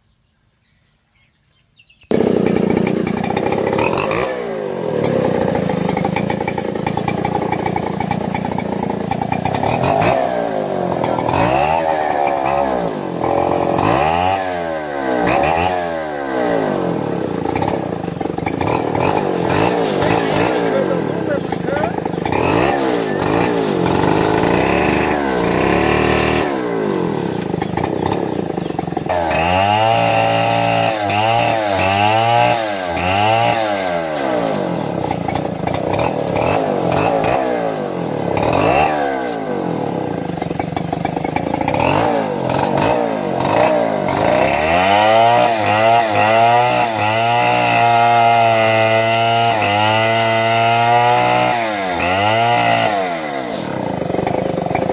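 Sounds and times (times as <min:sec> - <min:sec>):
chainsaw revving: 0:02.1 - 0:54.9.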